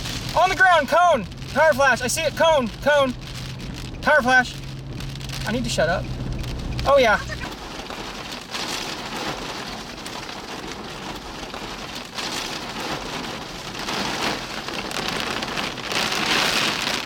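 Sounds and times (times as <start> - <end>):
heavy rain beating on car: 0.0 - 17.0.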